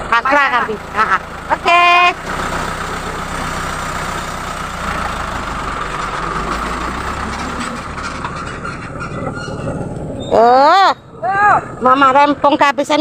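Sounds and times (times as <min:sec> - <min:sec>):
diesel truck engine passing: 0:00.0 - 0:13.0.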